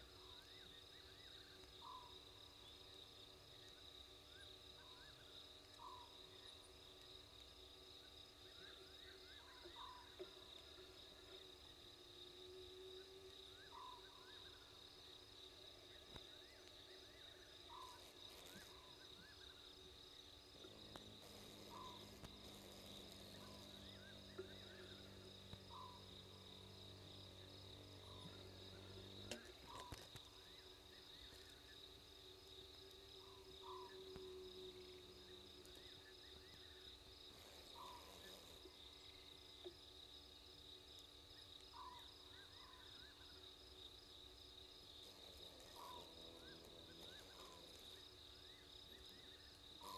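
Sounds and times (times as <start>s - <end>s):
cricket trill: 0.0s - 49.9s.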